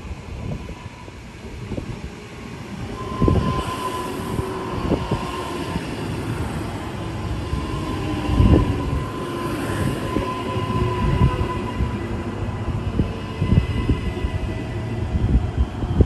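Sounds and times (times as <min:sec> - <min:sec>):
train rumbling on rails: 0:00.0 - 0:16.0
whine: 0:00.4 - 0:16.0.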